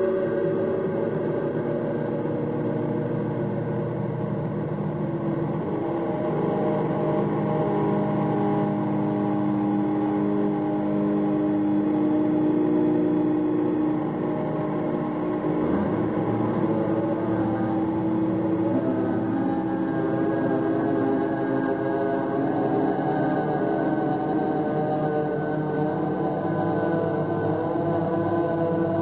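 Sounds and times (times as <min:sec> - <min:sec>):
ambient drone of held tones: 0:00.0 - 0:29.0.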